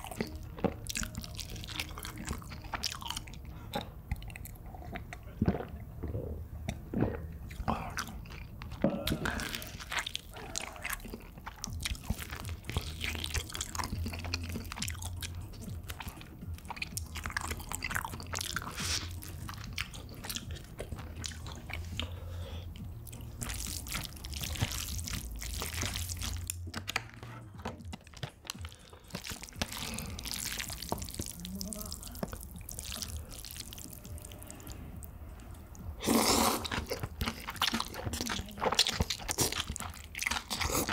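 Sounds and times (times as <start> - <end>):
food crunching and chewing: 0.0 - 40.9
wet mouth sounds: 0.0 - 40.9.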